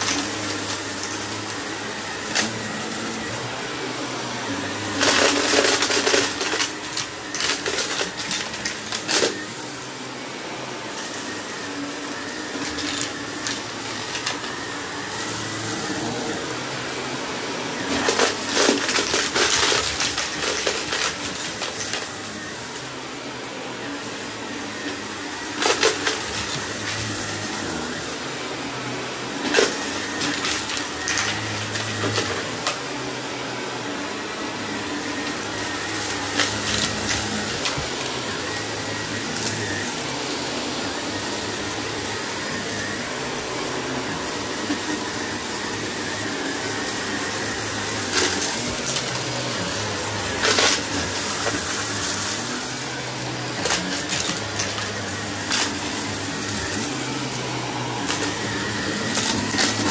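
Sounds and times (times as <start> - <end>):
debris rattling in vacuum: 0.0 - 59.9
vacuum cleaner motor humming: 0.0 - 59.9.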